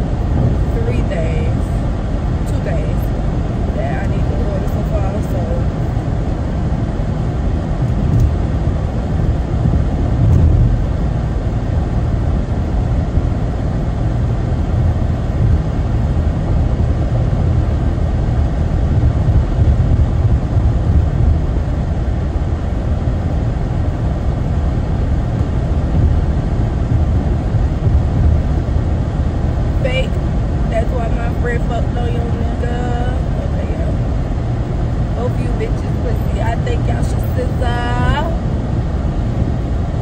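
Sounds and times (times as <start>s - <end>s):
car interior road noise: 0.0s - 40.0s.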